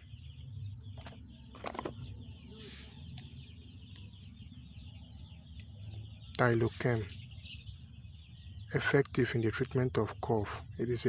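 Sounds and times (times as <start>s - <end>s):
chickens clucking: 0.0s - 11.0s
continuous high chirping: 0.0s - 11.0s.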